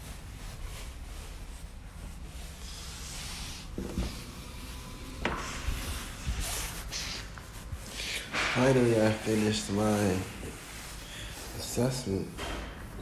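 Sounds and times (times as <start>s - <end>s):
microphone rubbing on jacket: 0.0s - 12.2s.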